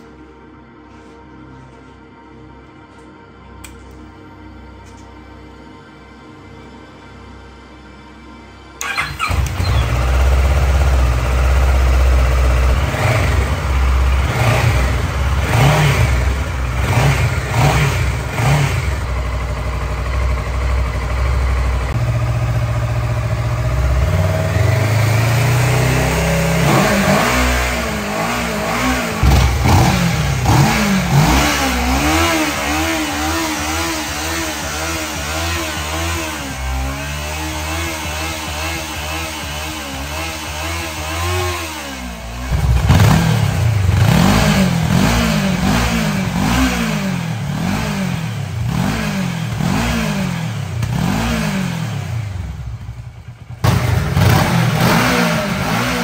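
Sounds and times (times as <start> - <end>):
motorcycle engine revving: 8.8 - 56.0.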